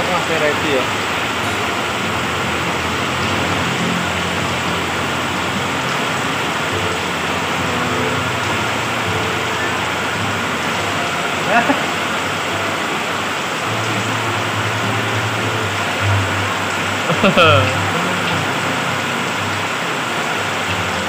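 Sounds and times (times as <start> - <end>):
heavy rain on street and roof: 0.0 - 21.0.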